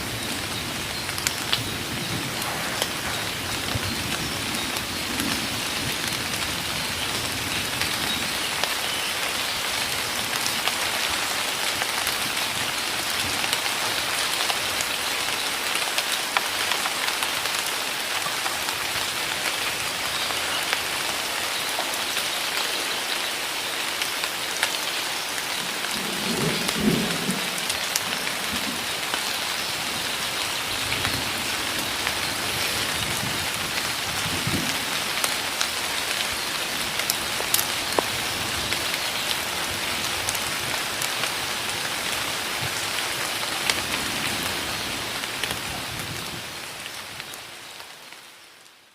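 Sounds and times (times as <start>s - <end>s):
heavy rain in a forest: 0.0s - 48.9s.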